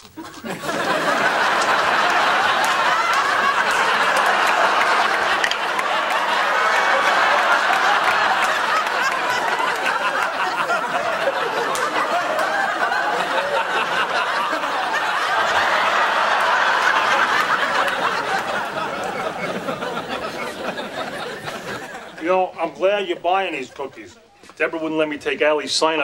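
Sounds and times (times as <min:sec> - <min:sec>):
audience laughing: 0:00.0 - 0:24.5.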